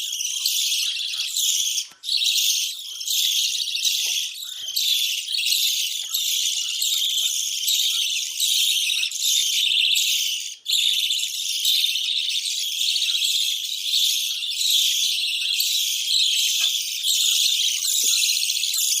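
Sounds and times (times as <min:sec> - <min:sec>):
budgerigars chattering and warbling: 0:00.0 - 0:19.0.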